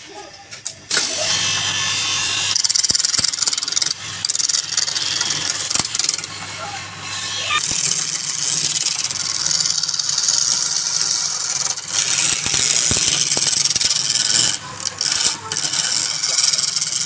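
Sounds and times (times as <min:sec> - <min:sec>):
lathe motor hum: 0:00.9 - 0:17.0
turning tool scraping wood: 0:00.9 - 0:17.0.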